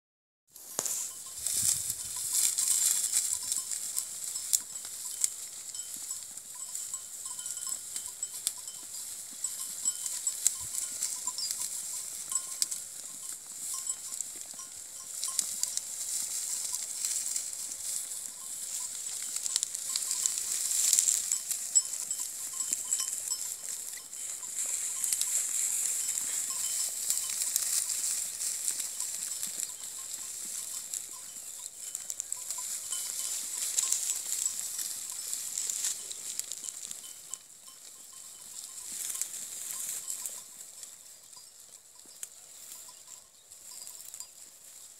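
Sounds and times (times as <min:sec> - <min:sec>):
steady high-pitched hiss: 0:00.5 - 0:44.9
sheep crunching and tearing stubble: 0:00.6 - 0:44.9.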